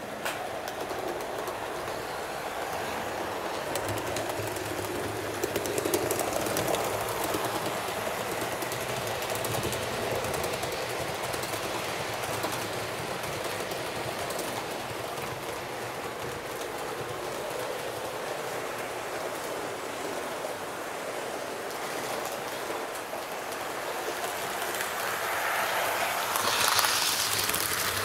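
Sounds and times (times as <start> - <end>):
model train rattling on track: 0.0 - 28.0
wheels clicking over rail joints: 0.0 - 28.0.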